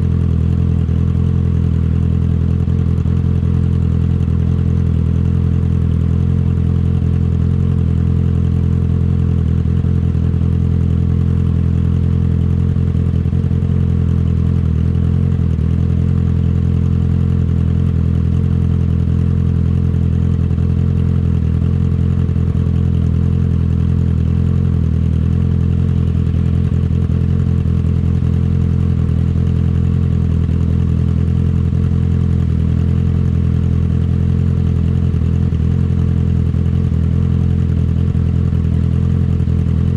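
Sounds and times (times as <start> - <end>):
motorcycle exhaust at steady speed: 0.0 - 39.9.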